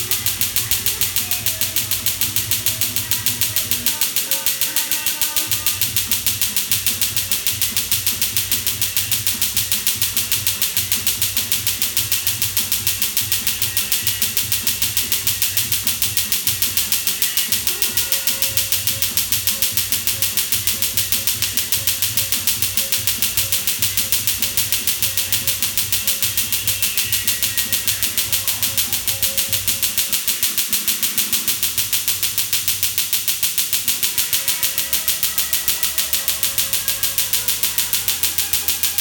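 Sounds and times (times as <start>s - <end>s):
laser pulses snapping: 0.0s - 39.0s.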